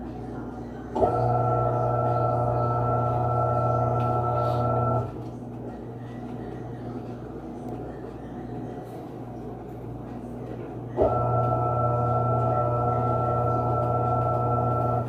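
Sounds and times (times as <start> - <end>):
washing machine low hum: 0.0 - 15.0
washing machine motor hum and whine: 0.0 - 15.0.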